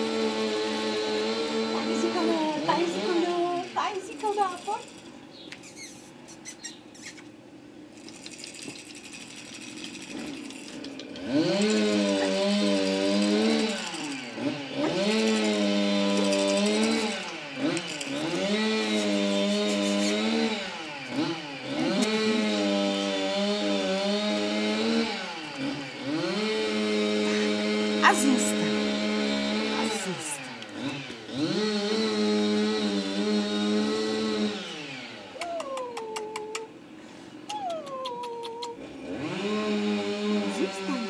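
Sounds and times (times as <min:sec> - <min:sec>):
motorised power tool running: 0:00.0 - 0:05.4, 0:07.9 - 0:35.4, 0:38.8 - 0:41.0.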